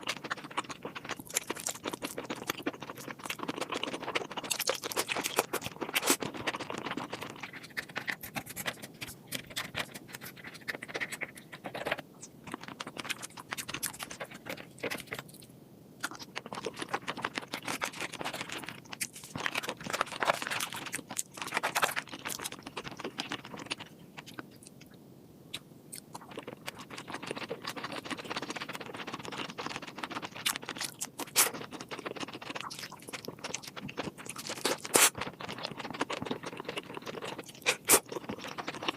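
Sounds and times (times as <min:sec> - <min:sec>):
chewing seafood: 0:00.0 - 0:38.9.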